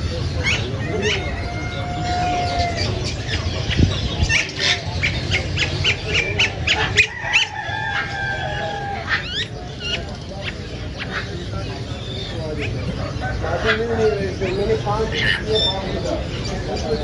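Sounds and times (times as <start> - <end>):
parrots squawking and chirping: 0.0 - 17.0.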